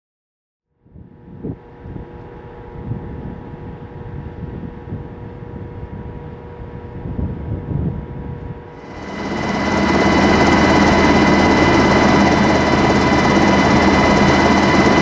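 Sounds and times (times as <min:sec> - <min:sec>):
faint machine hum: 0:00.8 - 0:15.0
wind buffeting microphone: 0:00.9 - 0:15.0.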